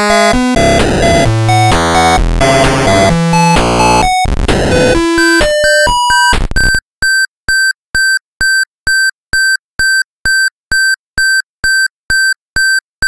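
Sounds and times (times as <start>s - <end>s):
short electronic beeps: 1.1s - 12.8s.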